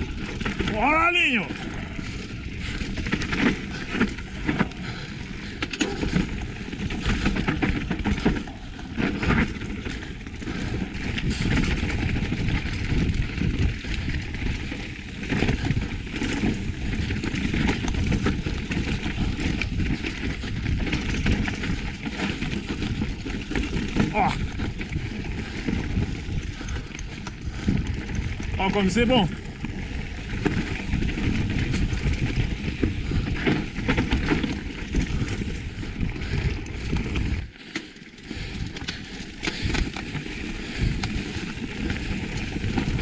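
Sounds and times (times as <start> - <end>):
bike knocking and rattling: 0.0 - 43.0
wind and tyre noise on dirt: 0.0 - 43.0.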